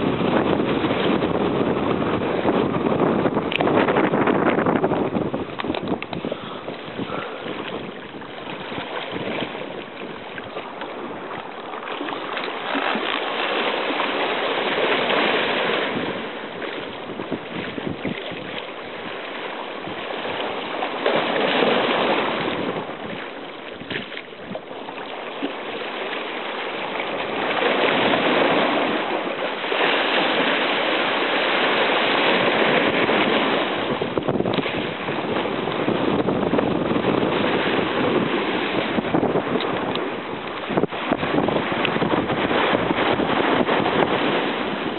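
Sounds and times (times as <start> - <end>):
waves washing over rocks: 0.0 - 44.9.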